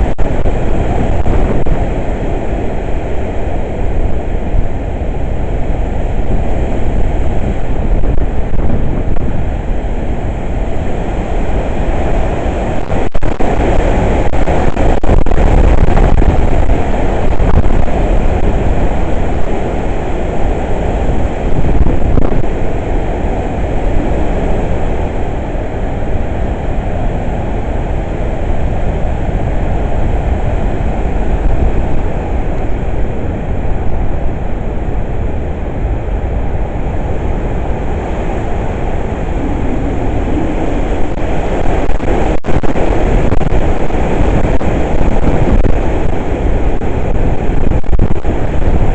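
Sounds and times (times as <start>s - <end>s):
strong wind gusts on microphone: 0.0s - 48.9s.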